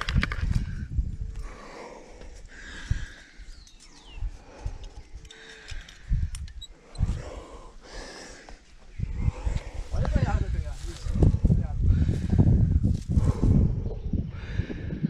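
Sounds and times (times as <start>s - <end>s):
person breathing hard: 1.2s - 10.0s, 10.6s - 15.0s.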